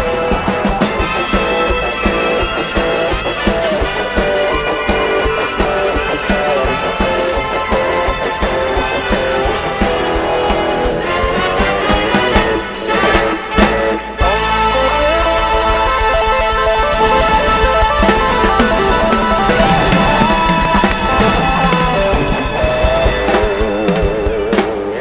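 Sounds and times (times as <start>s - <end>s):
band music: 0.0s - 25.0s
guitar: 0.0s - 25.0s
steady drum beat: 0.0s - 25.0s.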